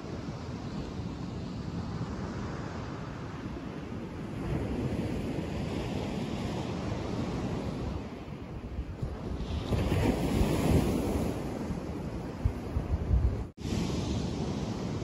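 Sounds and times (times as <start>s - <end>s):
sea waves on sandy beach: 0.0s - 15.0s
wind buffeting microphone: 0.0s - 15.0s.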